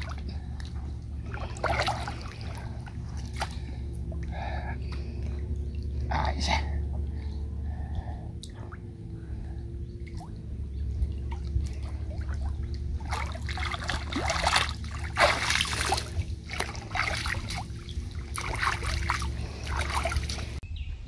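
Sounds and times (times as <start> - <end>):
water splashing and trickling: 0.0 - 20.6.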